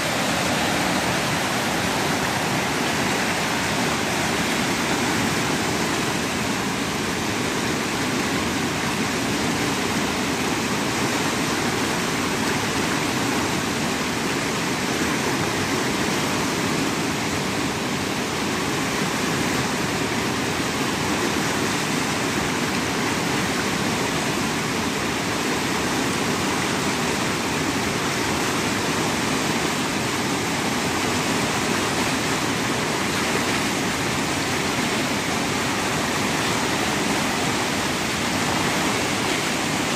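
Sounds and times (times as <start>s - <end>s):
whitewater rushing over boulders: 0.0s - 39.9s.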